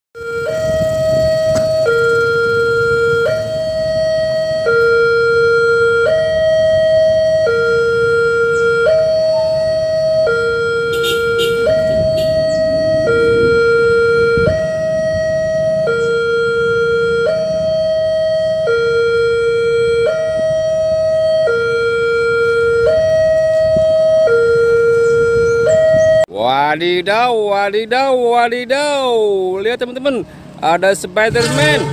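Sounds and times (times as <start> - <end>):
level crossing alarm alternating tones: 0.2 - 26.3.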